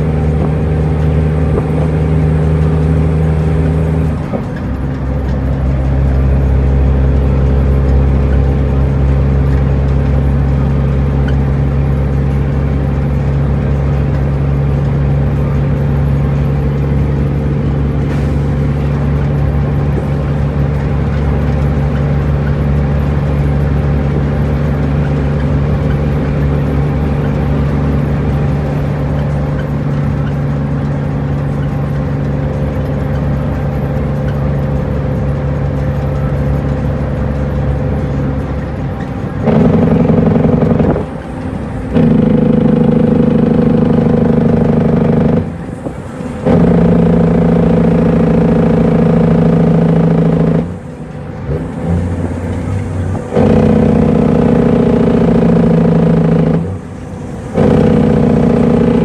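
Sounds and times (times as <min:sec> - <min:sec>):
truck diesel engine from cab: 0:00.0 - 0:59.0.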